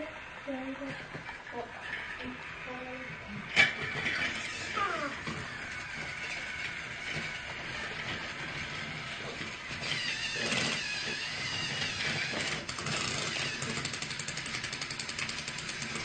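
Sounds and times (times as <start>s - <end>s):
toy train motor whine: 0.0s - 16.0s.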